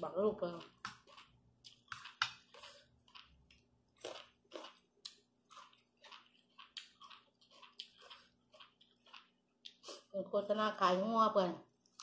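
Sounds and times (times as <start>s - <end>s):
chewing food close-up: 0.4s - 10.1s.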